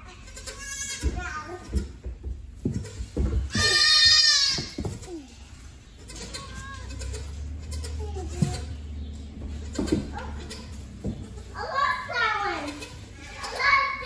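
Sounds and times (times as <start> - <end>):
goat kid bleating: 0.0 - 2.0, 2.6 - 8.9, 9.5 - 14.0.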